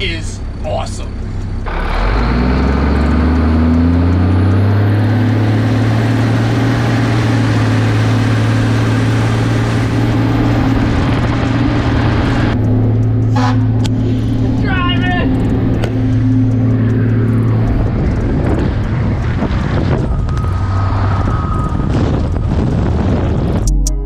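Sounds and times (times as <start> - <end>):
tyre and road noise: 0.0 - 23.8
diesel truck engine: 0.0 - 24.0.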